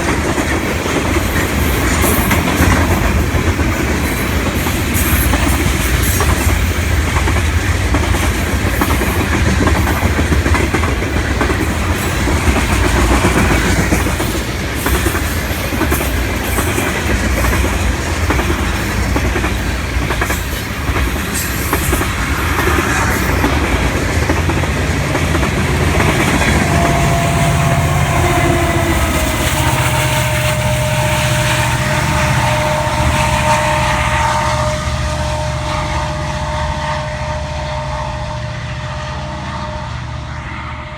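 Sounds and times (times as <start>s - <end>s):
train wheels clicking over rail joints: 0.0s - 36.7s
train rumble: 0.0s - 40.9s.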